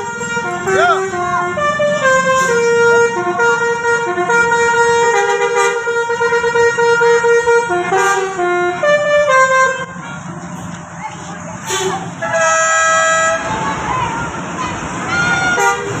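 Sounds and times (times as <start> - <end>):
bus musical horn playing tune: 0.0 - 10.3, 11.6 - 16.0.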